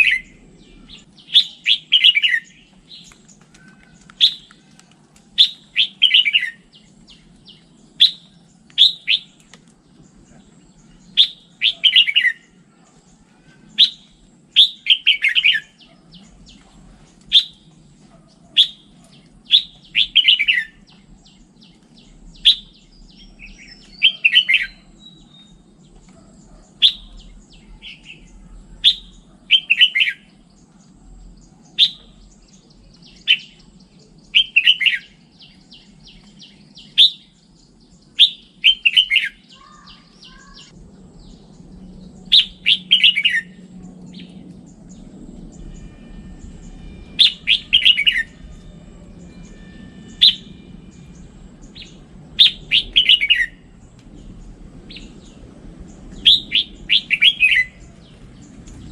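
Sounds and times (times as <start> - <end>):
bird singing: 0.0 - 58.9
faint low hum: 0.0 - 58.9.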